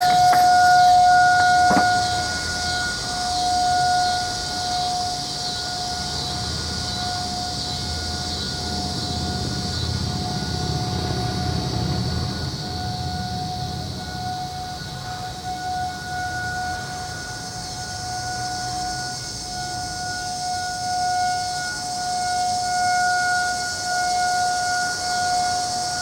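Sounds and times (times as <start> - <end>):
distant tornado warning siren: 0.0 - 26.0.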